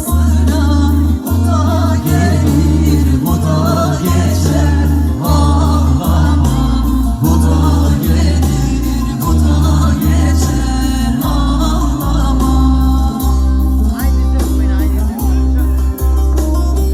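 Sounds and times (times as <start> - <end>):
person singing: 0.0 - 16.9
steady bass beat: 0.0 - 16.9.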